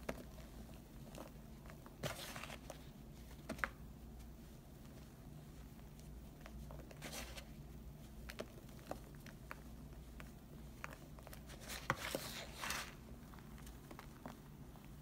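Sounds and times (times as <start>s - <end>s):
soft crackles: 0.0s - 15.0s.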